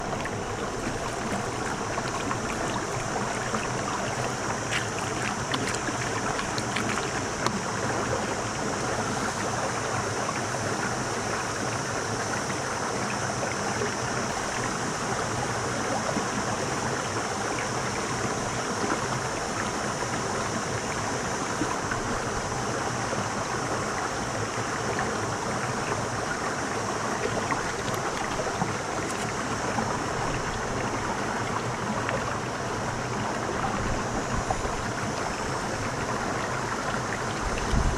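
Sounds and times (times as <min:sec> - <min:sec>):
flowing water rushing: 0:00.0 - 0:37.9.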